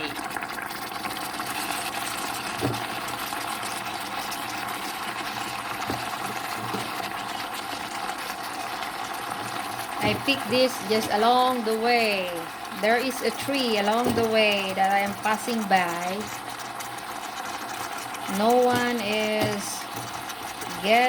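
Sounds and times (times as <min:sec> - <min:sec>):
pot of food hissing on stove: 0:00.0 - 0:21.0.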